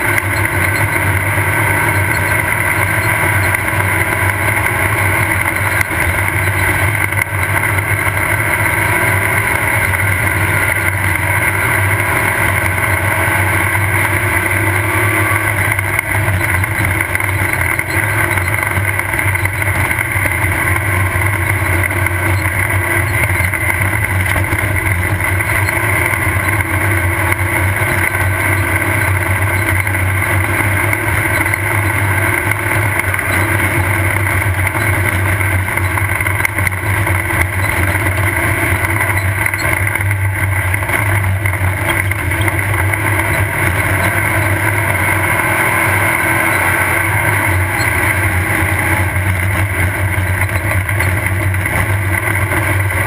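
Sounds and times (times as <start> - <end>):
race car engine droning: 0.0 - 53.0.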